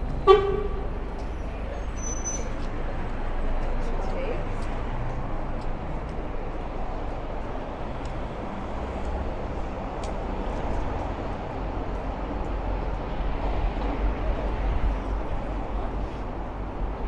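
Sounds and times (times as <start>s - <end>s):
low street rumble: 0.0s - 17.0s
voices of passers-by: 0.0s - 17.0s.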